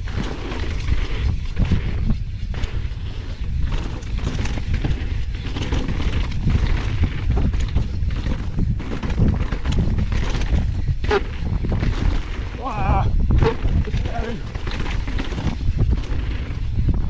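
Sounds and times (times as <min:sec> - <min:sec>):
bike knocks and rattles: 0:00.0 - 0:17.0
tyres on dirt trail: 0:00.0 - 0:17.0
wind rumble on microphone: 0:00.0 - 0:17.0.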